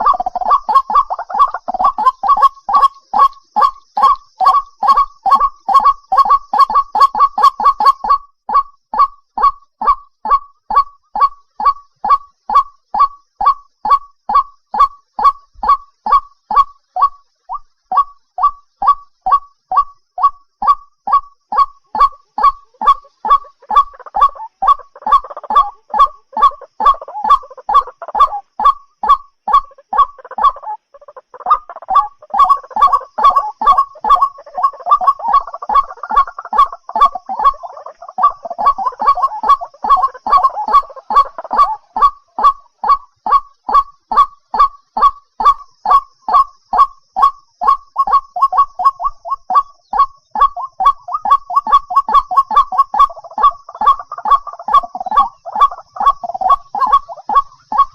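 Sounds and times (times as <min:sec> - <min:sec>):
chorus of bird calls: 0:00.0 - 0:57.9.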